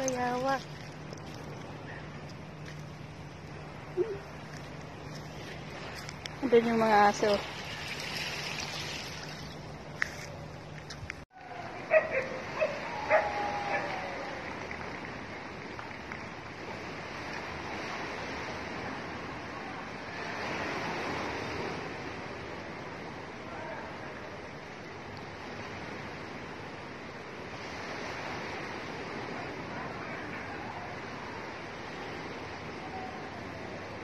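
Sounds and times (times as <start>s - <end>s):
wind: 0.0s - 34.0s.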